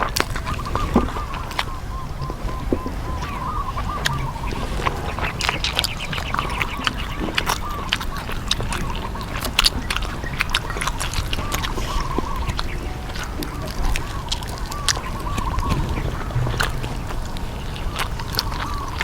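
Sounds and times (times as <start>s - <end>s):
crunchy chewing: 0.0s - 19.0s
duck-like calls: 0.0s - 19.0s.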